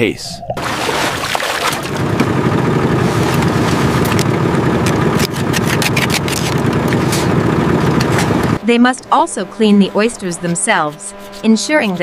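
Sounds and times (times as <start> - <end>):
boat engine running: 0.4 - 12.0.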